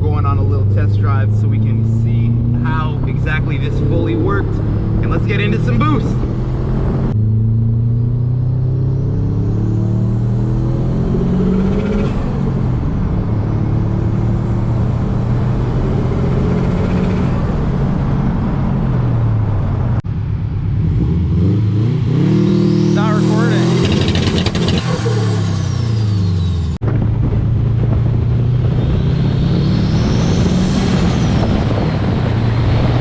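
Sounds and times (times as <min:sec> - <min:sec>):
turbocharged car engine accelerating: 0:00.0 - 0:33.0.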